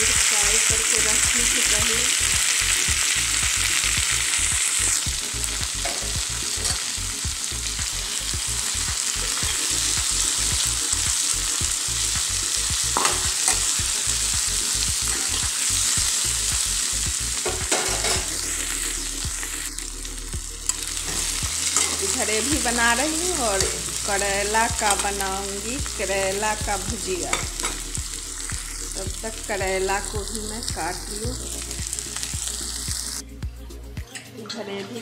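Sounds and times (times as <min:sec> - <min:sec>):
vegetables sizzling in a pan: 0:00.0 - 0:33.2.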